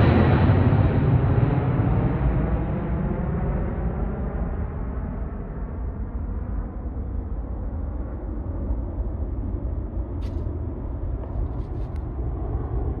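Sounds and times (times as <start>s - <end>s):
jet engine deep rumble: 0.0s - 13.0s.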